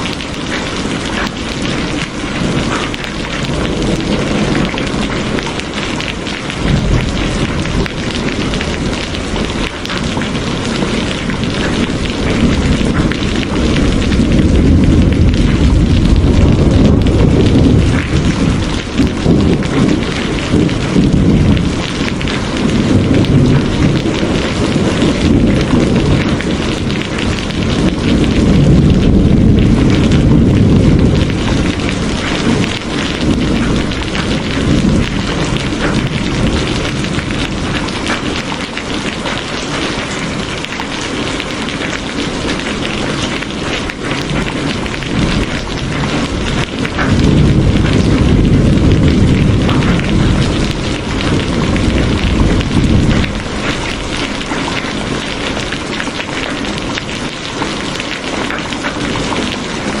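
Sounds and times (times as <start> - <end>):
rain pattering: 0.0 - 60.0
thunder rumbling: 0.0 - 60.0.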